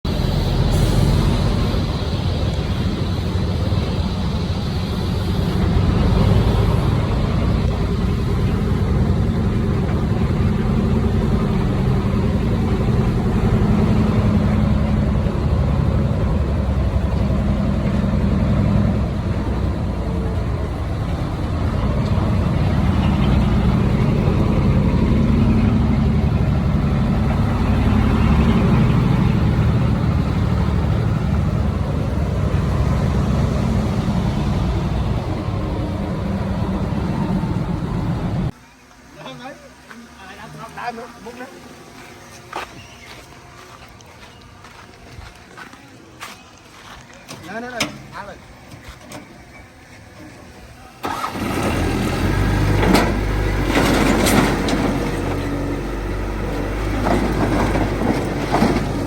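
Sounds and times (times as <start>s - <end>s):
bulldozer engine rumbling: 0.0s - 59.0s.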